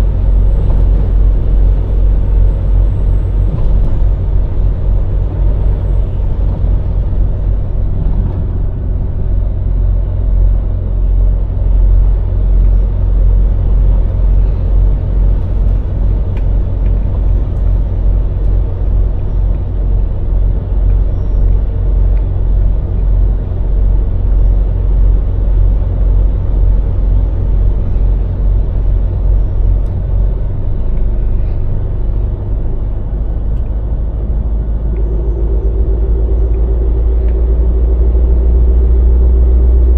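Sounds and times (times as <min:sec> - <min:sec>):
lorry diesel engine running: 0:00.0 - 0:39.9
road noise: 0:00.0 - 0:39.9.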